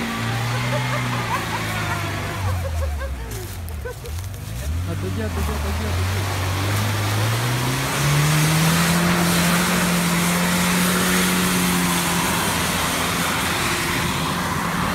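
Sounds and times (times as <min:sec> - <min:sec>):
off-road engine revving: 0:00.0 - 0:14.9
wheels churning mud: 0:00.0 - 0:14.9.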